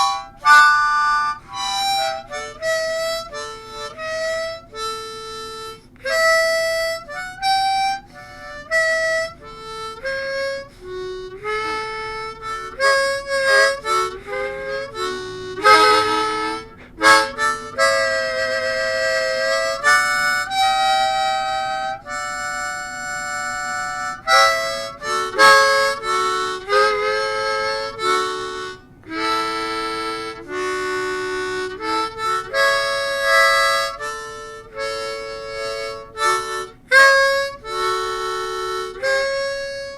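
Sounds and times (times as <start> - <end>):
blues harmonica solo: 0.0 - 39.9.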